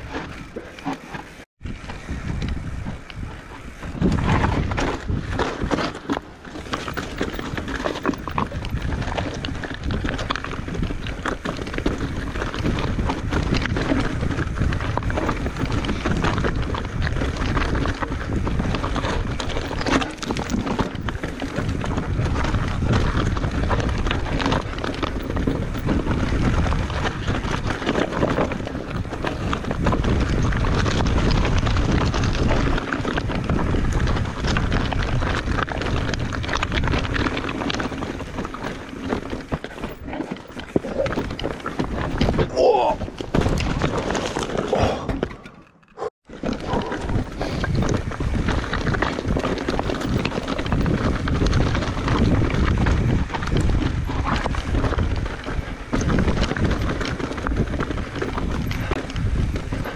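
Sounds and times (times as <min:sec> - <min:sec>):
wind noise on microphone: 0:00.0 - 0:45.5, 0:46.2 - 0:59.9
bike rattling over rocks: 0:00.0 - 0:59.9.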